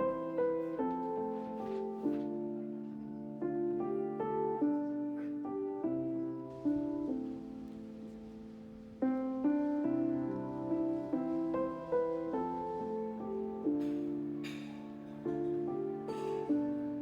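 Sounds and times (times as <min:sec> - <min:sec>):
slow solo piano melody: 0:00.0 - 0:17.0.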